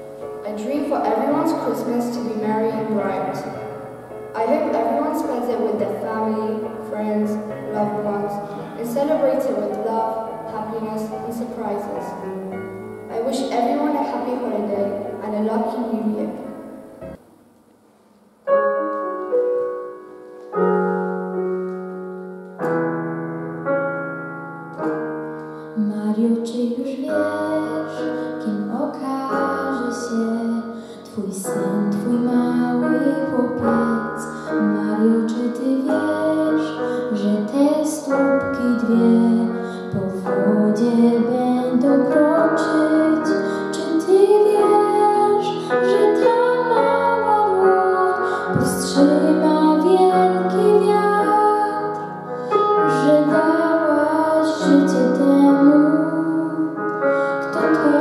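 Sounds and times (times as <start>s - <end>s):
electric keyboard chords: 0.0s - 17.4s, 18.3s - 58.0s
girl singing: 0.4s - 3.6s, 4.3s - 12.2s, 13.1s - 16.4s, 25.8s - 58.0s.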